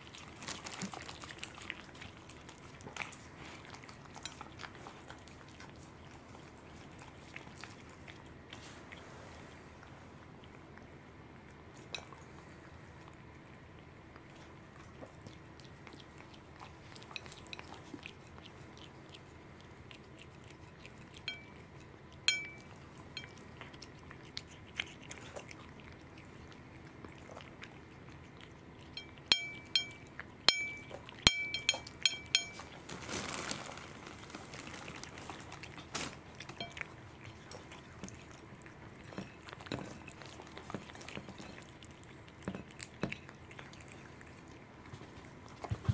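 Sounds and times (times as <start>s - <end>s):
cat chewing and smacking: 0.0s - 45.9s.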